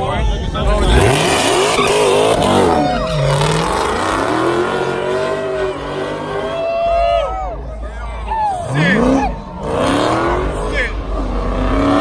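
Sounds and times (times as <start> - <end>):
car engine revving hard: 0.0 - 12.0
tire squeal: 0.0 - 12.0.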